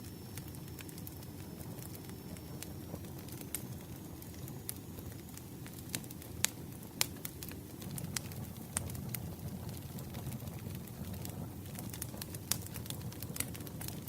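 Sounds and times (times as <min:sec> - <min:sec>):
campfire crackling and popping: 0:00.0 - 0:14.0
low rumble of campfire: 0:00.0 - 0:14.0.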